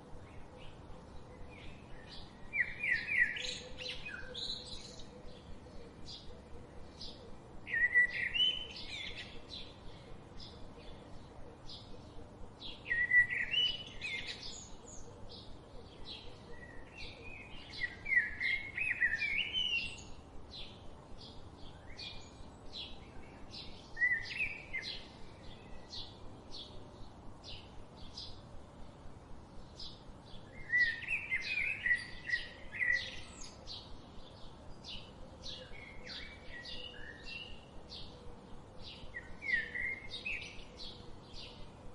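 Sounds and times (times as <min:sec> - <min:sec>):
bird warbling song: 0:00.2 - 0:28.5, 0:29.6 - 0:41.9.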